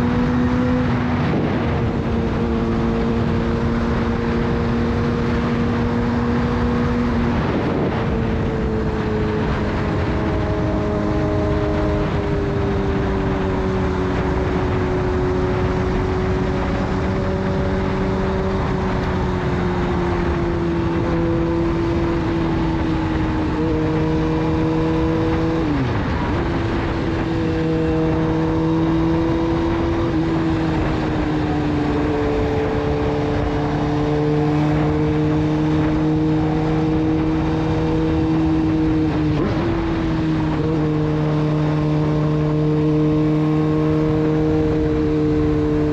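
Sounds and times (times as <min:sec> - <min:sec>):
motorcycle engine cruising: 0:00.0 - 0:45.9
wind noise: 0:00.0 - 0:45.9.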